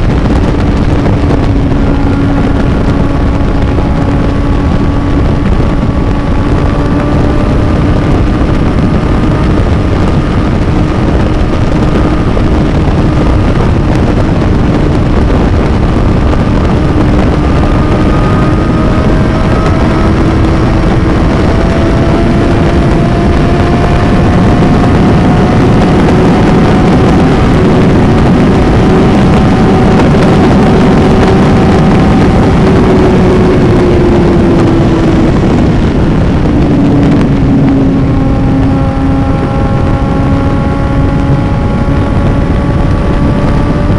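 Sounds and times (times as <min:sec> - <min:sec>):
motorcycle engine: 0:00.0 - 0:43.9
wind noise: 0:00.0 - 0:43.9.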